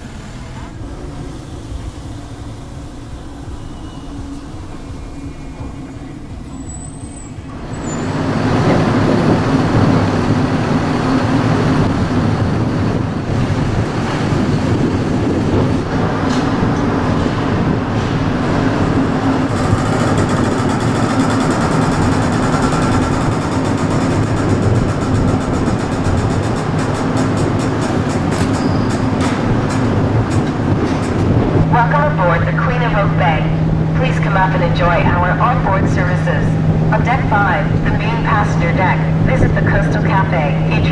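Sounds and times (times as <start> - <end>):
ship machinery rumble: 0.0 - 40.9.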